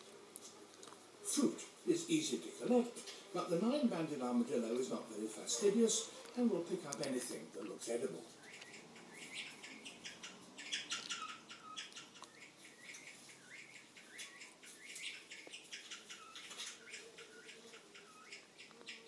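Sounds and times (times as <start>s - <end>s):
small birds chirping: 1.3s - 19.0s.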